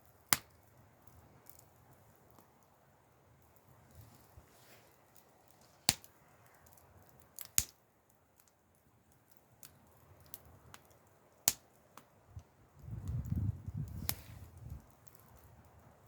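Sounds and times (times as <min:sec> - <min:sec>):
faint steady hiss: 0:00.0 - 0:16.0
wood fire crackling: 0:00.0 - 0:16.0.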